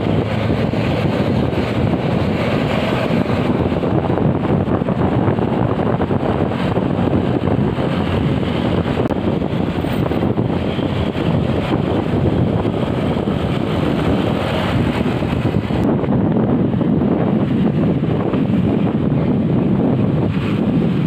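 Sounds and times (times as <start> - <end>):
road and traffic noise: 0.0 - 21.0
wind rush on microphone: 0.0 - 21.0.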